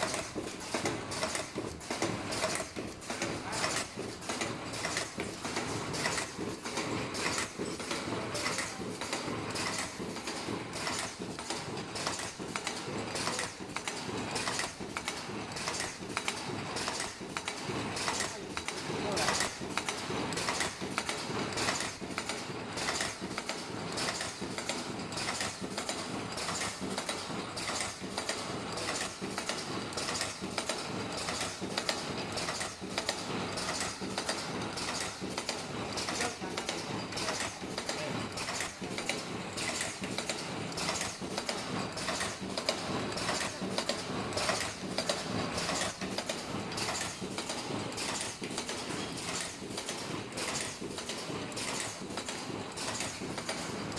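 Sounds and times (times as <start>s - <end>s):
machine clattering with quick clicks: 0.0s - 53.9s.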